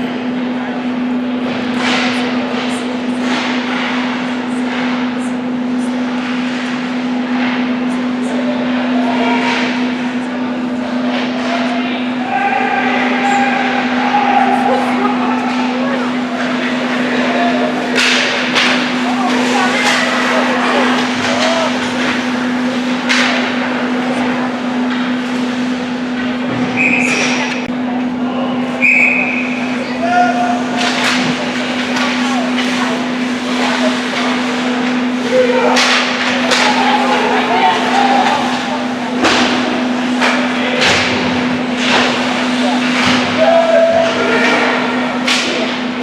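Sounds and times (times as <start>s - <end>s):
rink and crowd noise: 0.0s - 46.0s
steady hum: 0.0s - 46.0s
hockey play on ice: 0.3s - 28.2s, 28.8s - 46.0s.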